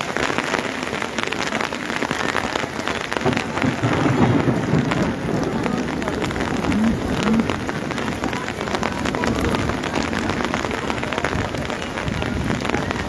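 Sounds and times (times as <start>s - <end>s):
heavy rain on wet paving: 0.0s - 13.0s.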